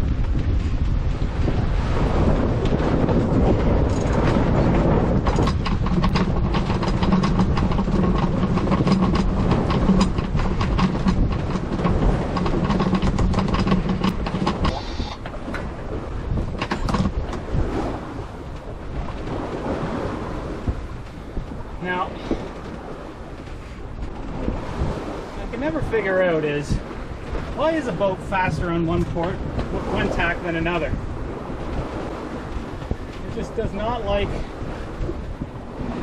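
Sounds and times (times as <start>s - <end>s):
water noise: 0.0s - 36.0s
wind: 0.0s - 36.0s.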